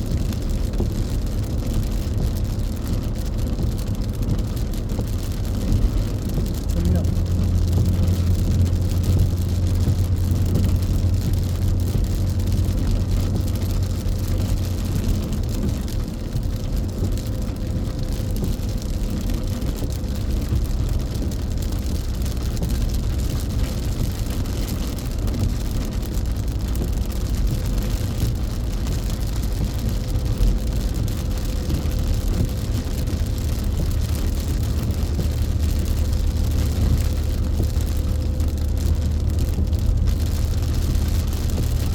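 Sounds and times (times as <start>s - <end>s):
car engine hum inside cabin: 0.0s - 41.9s
tyre noise on wet road: 0.0s - 41.9s.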